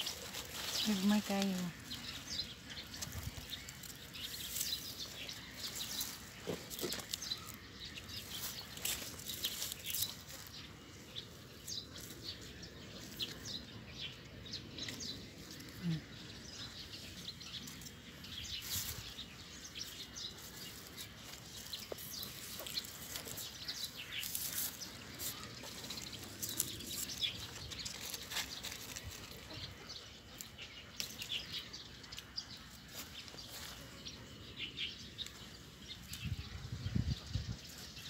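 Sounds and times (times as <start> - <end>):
faint outdoor background noise: 0.0 - 38.0
small birds chirping: 0.0 - 38.0.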